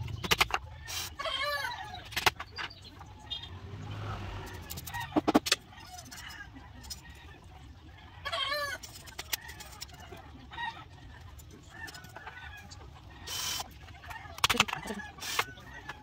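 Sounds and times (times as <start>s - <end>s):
chickens calling: 0.0s - 16.0s.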